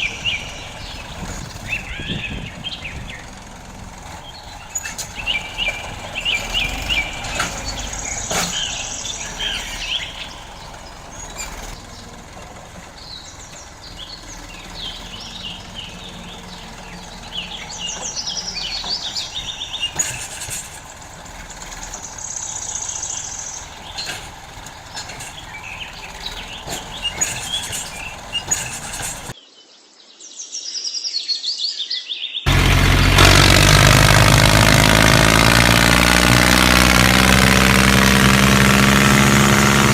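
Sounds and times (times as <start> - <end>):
loud engine running: 0.0 - 29.3, 32.5 - 39.9
birds chirping: 0.0 - 39.9.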